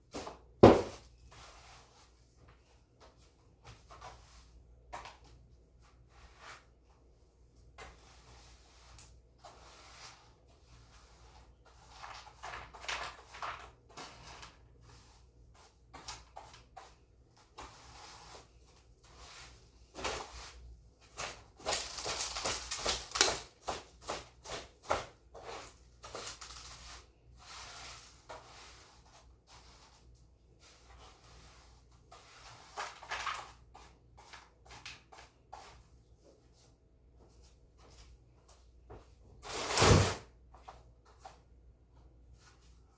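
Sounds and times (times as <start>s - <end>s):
broom sweeping floor: 0.0s - 42.9s.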